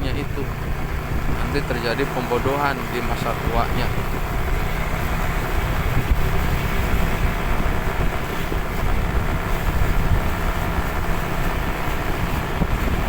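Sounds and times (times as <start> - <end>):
road noise: 0.0 - 13.0
vehicle engine: 0.0 - 13.0
wind rushing over microphone: 0.0 - 13.0.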